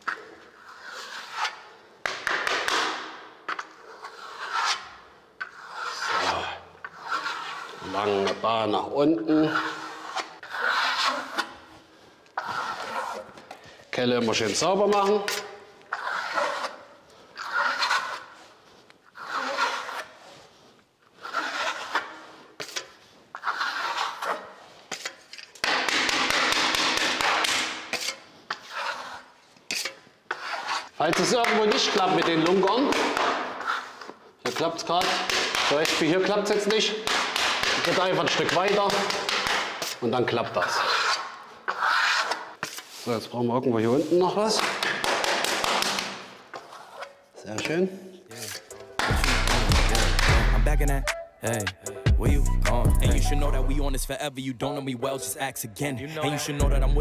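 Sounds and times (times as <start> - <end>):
trowel scraping plaster: 0.0 - 51.0.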